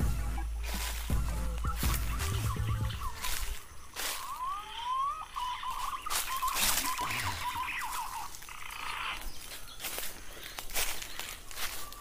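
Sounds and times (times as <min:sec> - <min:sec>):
footsteps in dry leaves: 0:00.0 - 0:12.0
whistled bird calls: 0:00.0 - 0:12.0.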